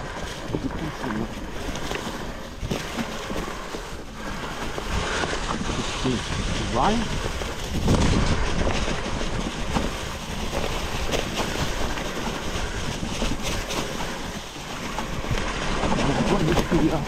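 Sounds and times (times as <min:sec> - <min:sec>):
bike rattling and clicking: 0:00.0 - 0:17.0
tyres crunching through dry leaves: 0:00.0 - 0:17.0.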